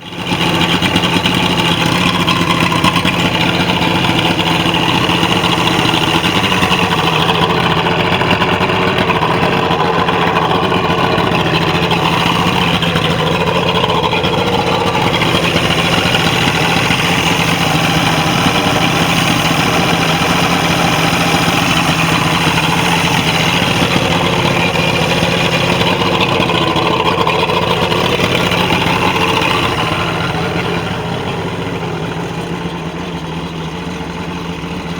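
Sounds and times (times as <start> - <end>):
outboard motor running: 0.0 - 34.9.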